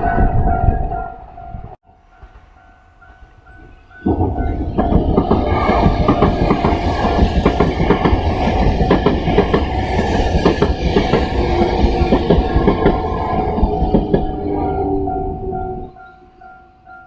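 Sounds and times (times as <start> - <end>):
crossing warning bell: 0.0 - 17.0
train wheels clacking: 2.1 - 17.0.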